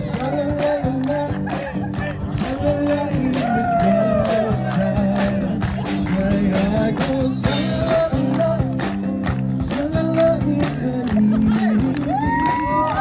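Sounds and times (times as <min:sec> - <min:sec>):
upbeat music with singing: 0:00.0 - 0:13.0.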